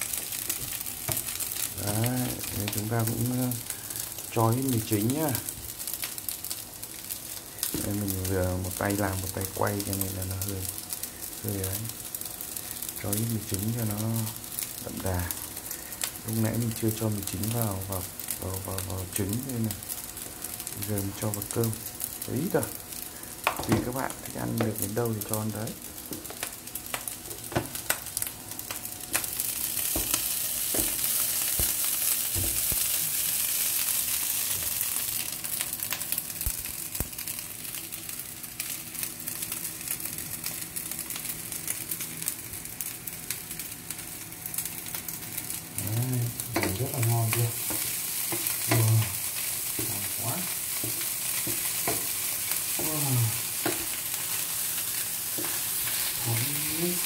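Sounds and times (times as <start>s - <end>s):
rice sizzling in frying pan: 0.0s - 57.0s.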